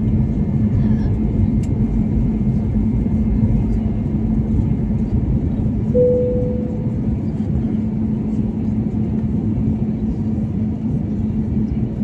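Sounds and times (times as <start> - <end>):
airplane cabin engine rumble: 0.0 - 12.0
constant hum: 0.0 - 12.0.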